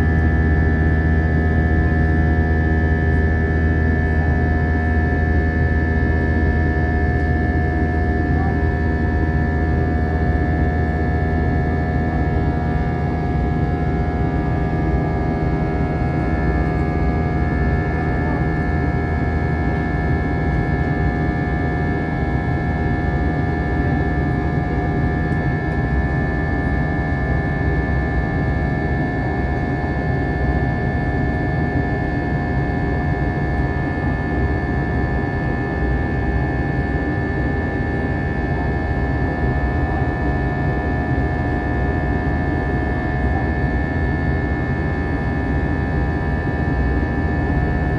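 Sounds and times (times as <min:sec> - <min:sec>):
jet engine and airflow rumble: 0:00.0 - 0:47.9.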